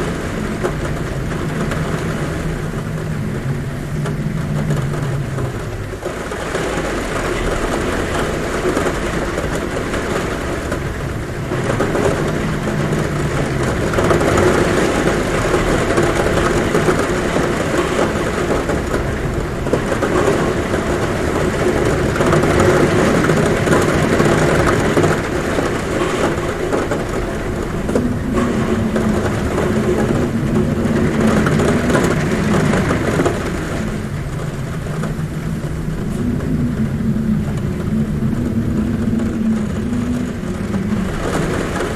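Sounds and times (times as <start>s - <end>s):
heavy rain on a roof: 0.0s - 41.9s
wind humming at window: 0.0s - 41.9s.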